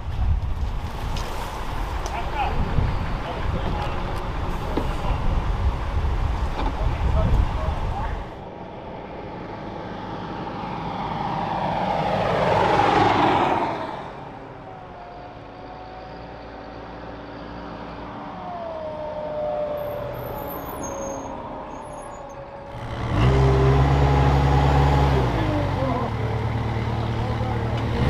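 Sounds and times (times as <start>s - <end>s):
engine and tyre noise: 0.0s - 28.0s
armoured vehicle passing: 0.5s - 28.0s.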